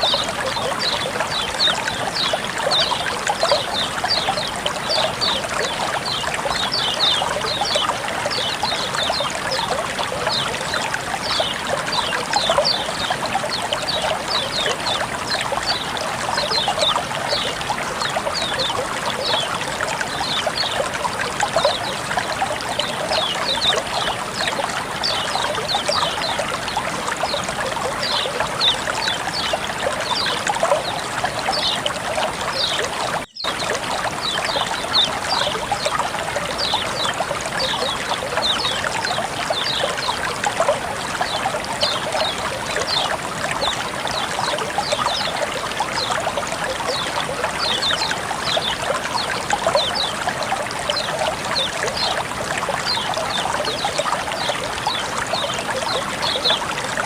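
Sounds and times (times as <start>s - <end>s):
water flowing and trickling: 0.0s - 57.0s
water splashes and plinks: 0.0s - 57.0s.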